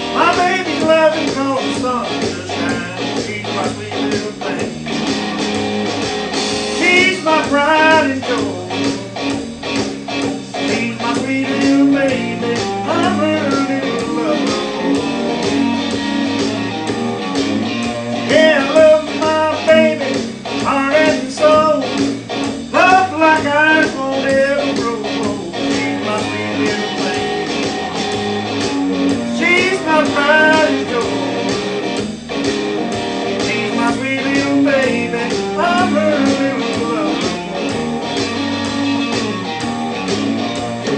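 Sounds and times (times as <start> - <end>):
blues-rock guitar music: 0.0 - 40.9.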